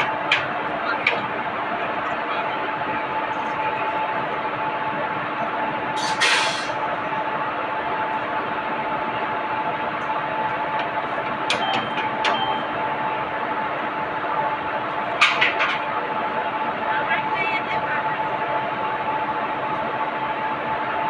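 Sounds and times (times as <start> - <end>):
locomotive machinery humming: 0.0 - 21.0.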